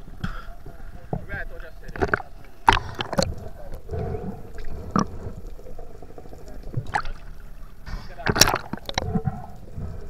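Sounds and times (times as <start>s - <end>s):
muffled underwater wash: 0.0s - 10.0s
sea water splashing: 0.0s - 10.0s.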